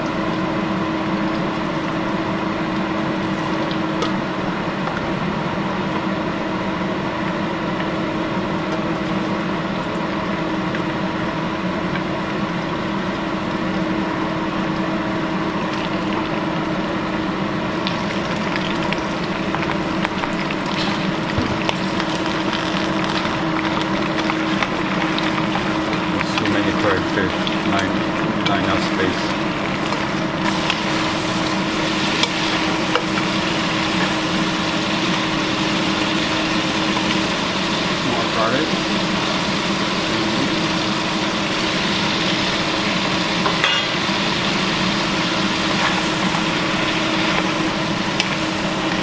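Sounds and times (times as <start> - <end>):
hot oil sizzling in a wok: 7.9 - 49.0.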